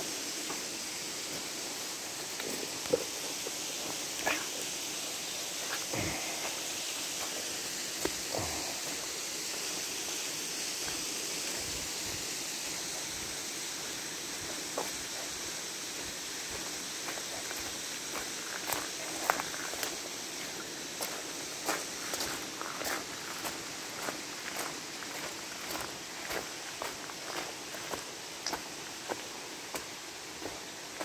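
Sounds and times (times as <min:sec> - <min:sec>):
creek water running over rocks: 0:00.0 - 0:31.0.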